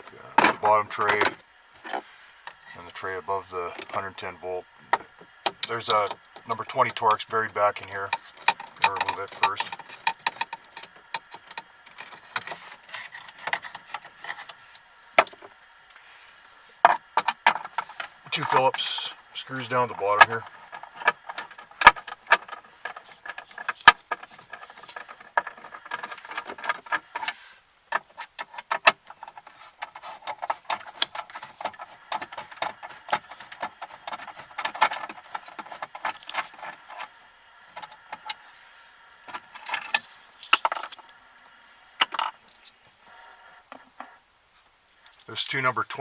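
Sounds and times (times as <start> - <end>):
sharp clicks and metallic rattles: 0.0 - 16.0, 16.8 - 38.4, 39.2 - 43.0, 43.6 - 46.0.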